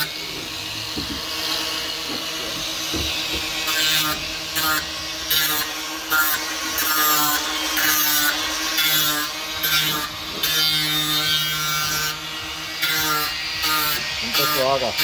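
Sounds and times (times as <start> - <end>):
angle grinder whining: 0.0 - 15.0.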